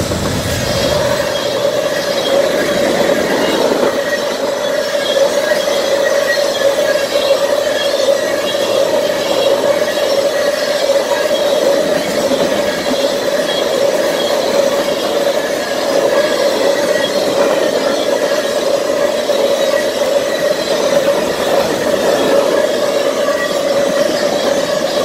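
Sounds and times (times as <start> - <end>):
train wheels rolling on rail: 0.0 - 25.0
wheels squealing: 0.0 - 25.0.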